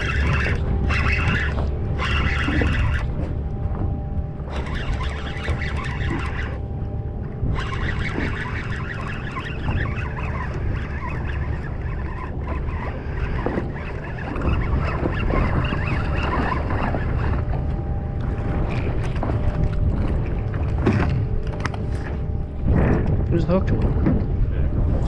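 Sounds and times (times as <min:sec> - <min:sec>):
boat rumble: 0:00.0 - 0:25.0
wind: 0:00.0 - 0:25.0.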